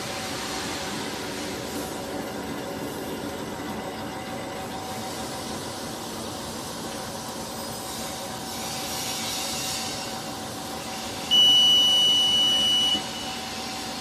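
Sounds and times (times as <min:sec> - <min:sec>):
bag-making machine hiss and hum: 0:00.0 - 0:14.0.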